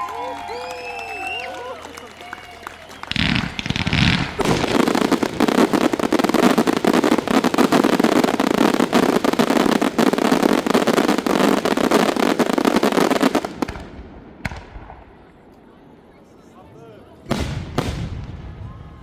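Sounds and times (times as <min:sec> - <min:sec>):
fireworks crackling and popping: 0:00.1 - 0:15.4, 0:17.3 - 0:19.0.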